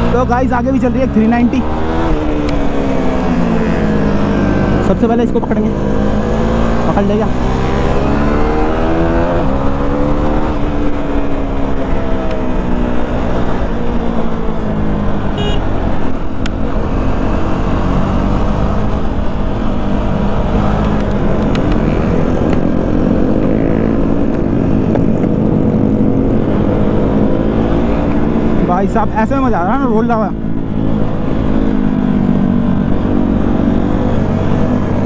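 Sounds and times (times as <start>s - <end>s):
motorcycle engine: 0.0s - 35.0s
wind and road noise: 0.0s - 35.0s.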